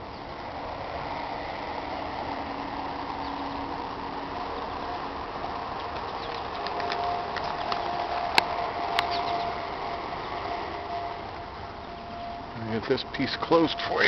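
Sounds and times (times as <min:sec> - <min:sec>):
truck idling hum: 0:00.0 - 0:14.0.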